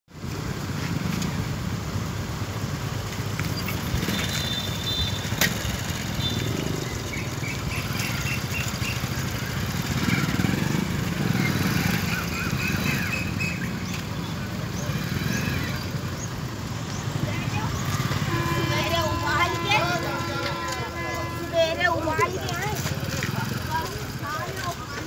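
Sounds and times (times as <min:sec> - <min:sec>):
low traffic rumble: 0:00.1 - 0:25.0
motorcycle engines running: 0:00.2 - 0:25.0.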